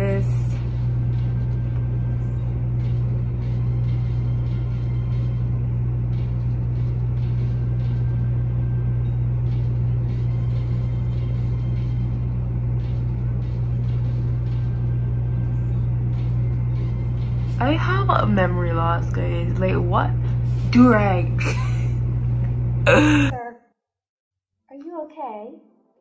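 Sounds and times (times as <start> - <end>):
steady low hum: 0.0 - 23.5.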